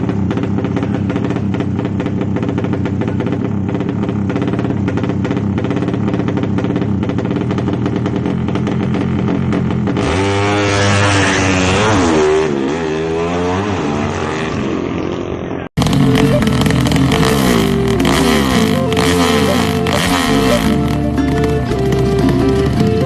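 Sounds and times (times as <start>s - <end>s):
engine running at steady revs: 0.0s - 23.0s
motorcycle engine revving: 0.0s - 23.0s.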